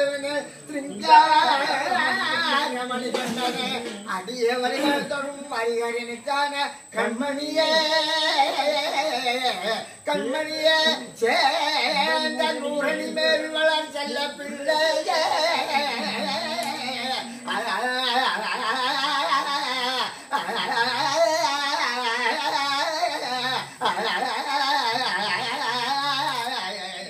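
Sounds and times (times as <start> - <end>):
elderly man singing devotional verse: 0.0 - 27.0.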